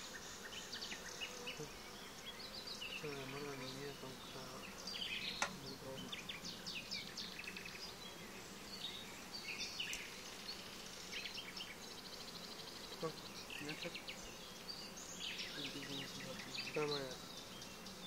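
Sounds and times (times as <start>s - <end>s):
honeybees humming: 0.0s - 18.0s
small birds chirping: 0.0s - 18.0s.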